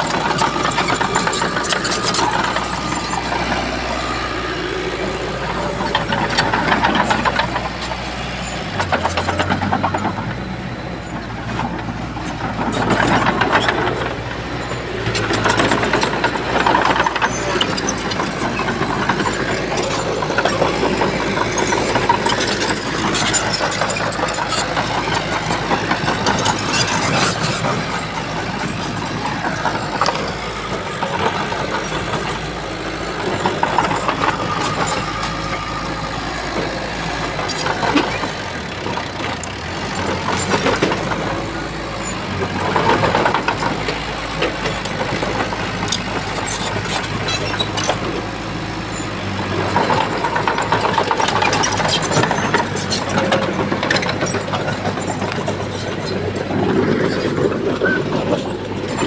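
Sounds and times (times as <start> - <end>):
heavy diesel machinery working: 0.0 - 59.0.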